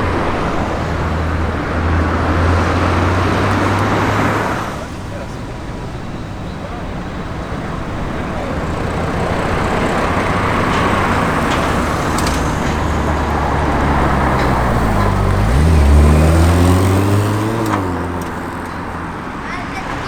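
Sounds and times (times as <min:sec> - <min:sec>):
car engine accelerating: 0:00.0 - 0:20.0
road and tyre noise: 0:00.0 - 0:20.0.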